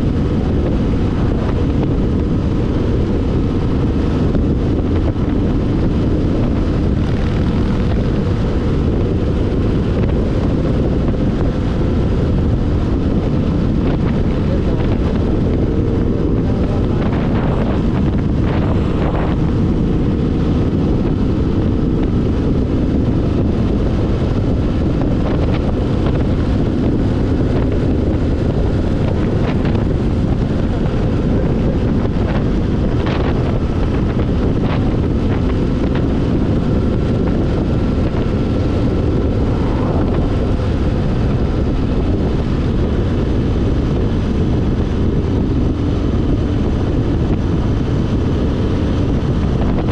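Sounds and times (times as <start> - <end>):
motorcycle engine: 0.0 - 49.9
road noise: 0.0 - 49.9
wind rush on microphone: 0.0 - 49.9.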